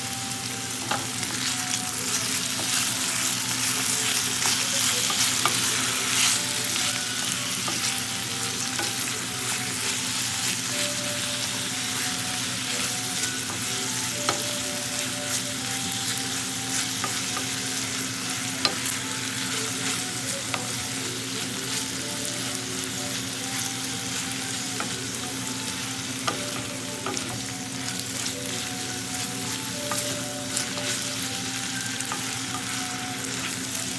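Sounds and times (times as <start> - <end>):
food sizzling as it fries: 0.0 - 33.9.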